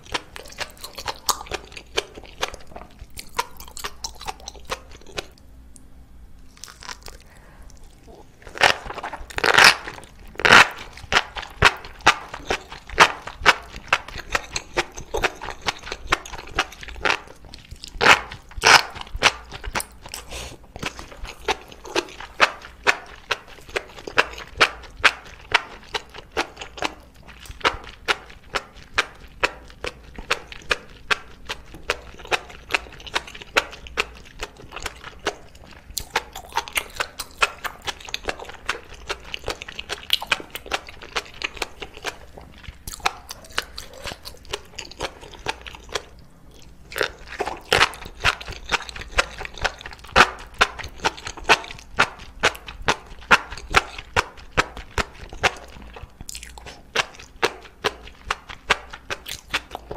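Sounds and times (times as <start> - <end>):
wet chewing and slurping: 0.0 - 5.4, 6.5 - 59.9.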